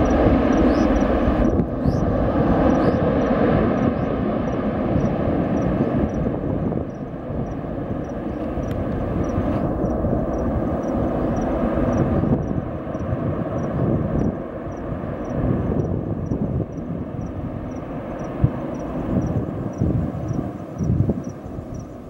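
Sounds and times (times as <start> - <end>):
airliner engines rumbling: 0.0 - 22.0.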